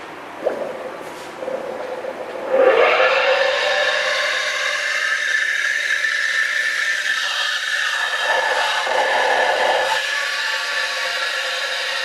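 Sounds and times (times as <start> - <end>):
low loud rush: 0.0 - 12.0
steam wand hissing: 1.4 - 12.0.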